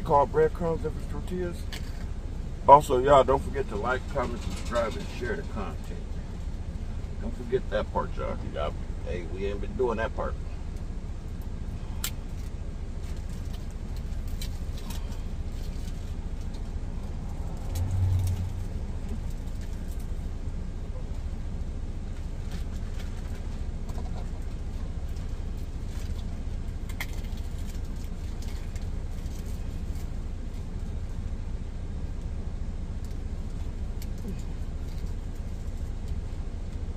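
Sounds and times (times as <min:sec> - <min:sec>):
low rumble: 0:00.0 - 0:36.9.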